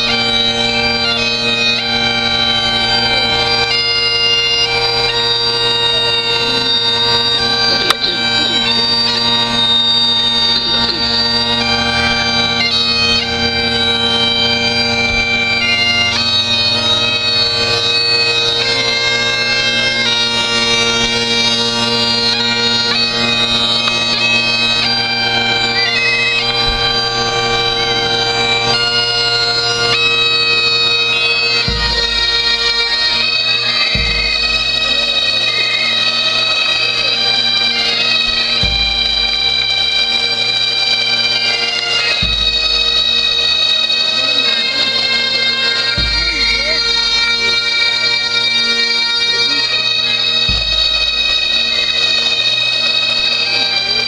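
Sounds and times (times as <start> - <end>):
bagpipes playing over drones: 0.0 - 54.0.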